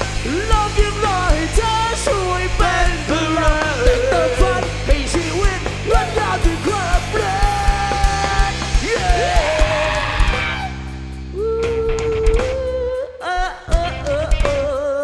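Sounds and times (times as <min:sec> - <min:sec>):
sliding bending lead notes: 0:00.0 - 0:12.9
live band playing pop-rock: 0:00.0 - 0:15.0.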